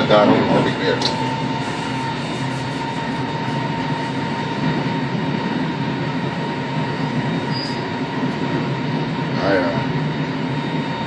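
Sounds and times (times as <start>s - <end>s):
constant high hum: 0.0s - 11.0s.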